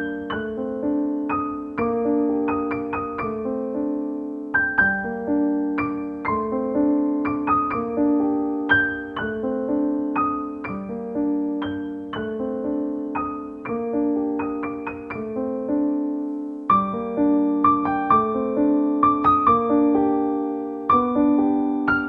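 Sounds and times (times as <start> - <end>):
solo piano: 0.0 - 22.0.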